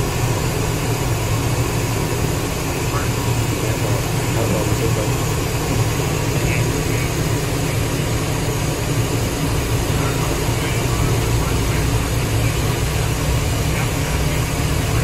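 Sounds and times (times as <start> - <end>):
airplane engine drone and hiss: 0.0 - 15.0.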